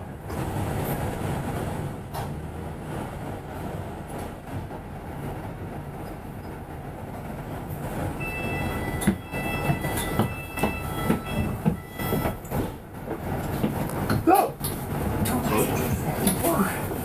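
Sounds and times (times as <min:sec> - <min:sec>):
bus running rumble: 0:00.0 - 0:17.0.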